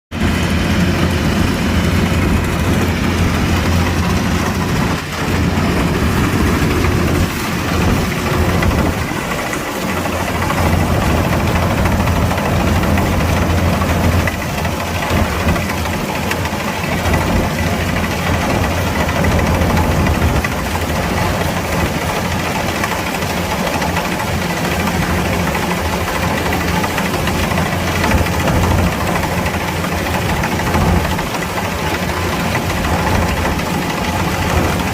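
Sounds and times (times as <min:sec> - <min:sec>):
combine harvester engine drone: 0:00.1 - 0:34.9.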